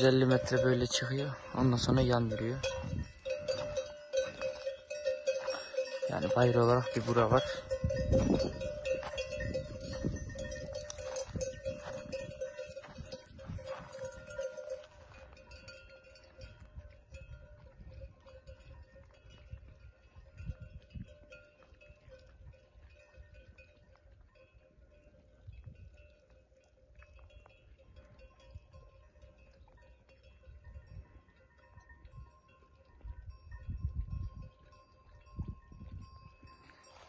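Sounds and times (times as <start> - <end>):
sheep bells clinking: 0.0 - 37.0.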